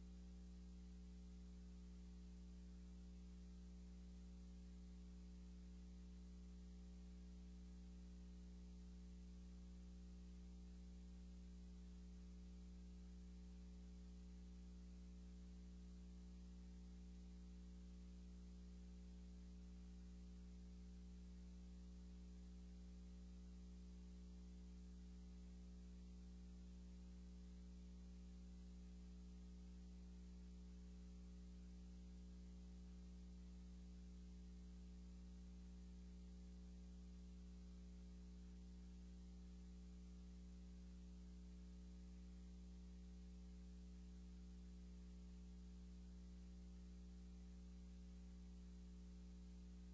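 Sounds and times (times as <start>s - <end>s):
faint electrical hum: 0.0s - 49.9s.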